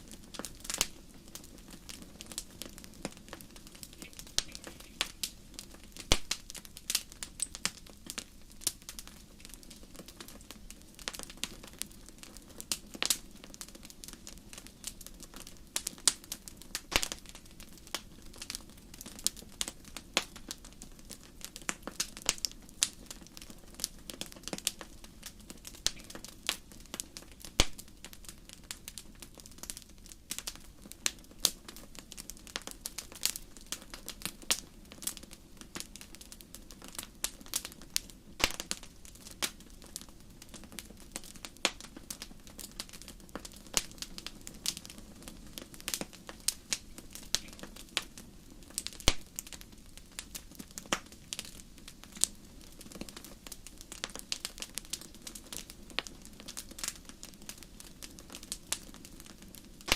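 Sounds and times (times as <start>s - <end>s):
fire snaps and pops: 0.0s - 59.9s
low rumble of flames: 0.0s - 59.9s.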